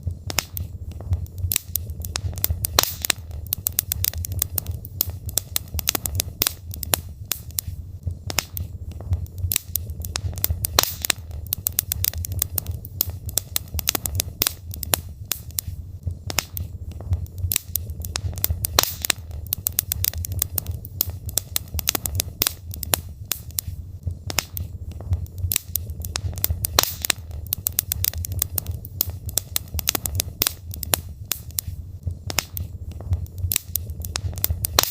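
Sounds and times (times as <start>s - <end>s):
logs crackling in a fireplace: 0.0s - 34.9s.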